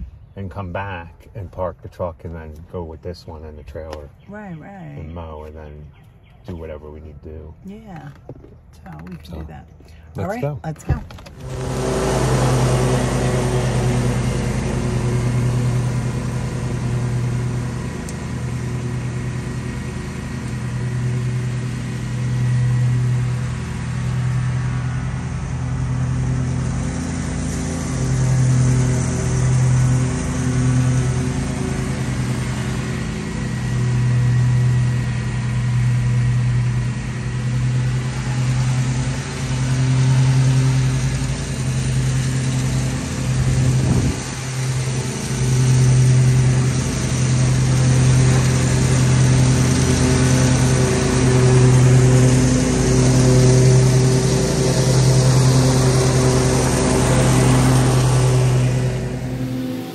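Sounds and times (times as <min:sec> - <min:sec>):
lawn mower engine running: 0:07.9 - 0:59.9.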